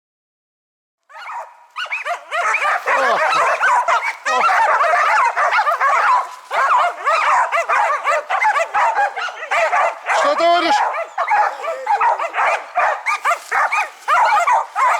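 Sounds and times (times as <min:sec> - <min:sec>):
dogs barking: 0:01.1 - 0:14.9.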